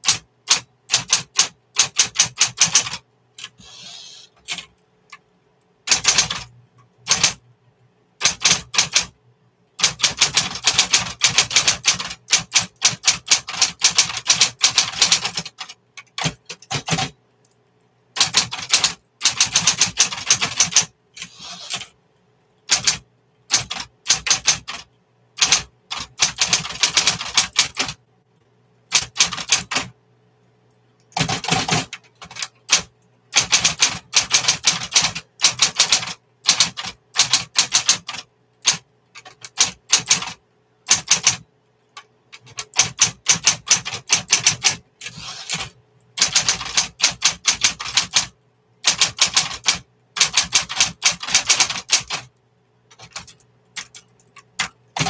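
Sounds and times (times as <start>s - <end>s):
typewriter keystrokes: 0.0s - 3.6s, 5.9s - 7.4s, 8.2s - 9.2s, 9.8s - 17.2s, 18.2s - 22.0s, 22.7s - 28.0s, 28.9s - 29.9s, 31.1s - 41.4s, 42.0s - 52.3s, 52.9s - 55.0s.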